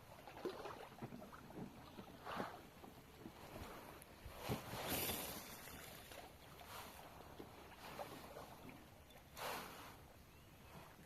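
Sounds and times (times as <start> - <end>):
water splashing around a kayak: 0.0 - 11.0.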